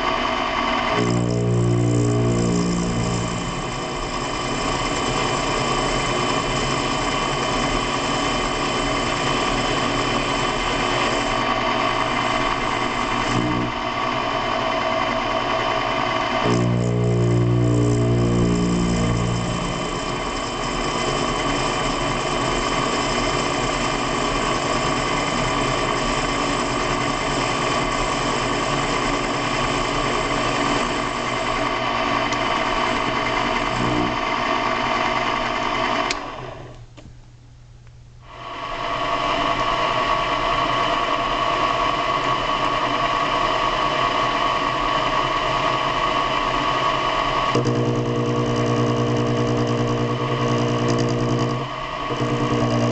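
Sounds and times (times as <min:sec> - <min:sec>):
geared motor whine: 0:00.0 - 0:37.0, 0:38.2 - 0:52.9.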